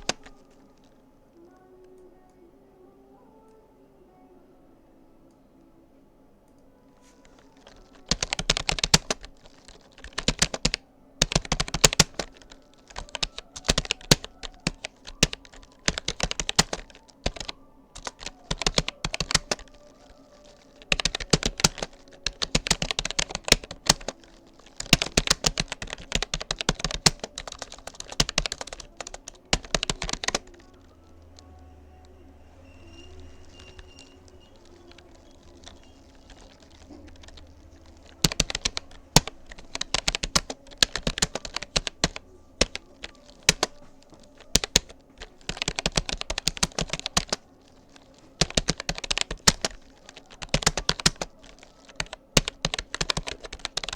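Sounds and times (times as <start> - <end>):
keyboard typing clicks: 0.0 - 0.9, 6.5 - 32.2, 33.0 - 53.9.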